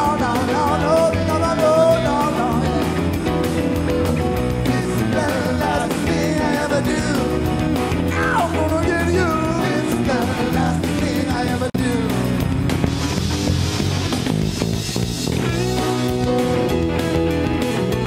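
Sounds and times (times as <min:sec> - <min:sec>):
bass guitar: 0:00.0 - 0:18.0
drums: 0:00.0 - 0:18.0
electric guitar lead: 0:00.0 - 0:18.0
keyboard: 0:00.0 - 0:18.0.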